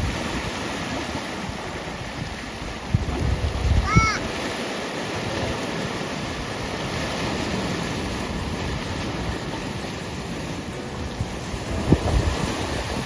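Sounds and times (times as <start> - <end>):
heavy surf: 0.0 - 13.0
strong wind buffeting microphone: 0.0 - 13.0.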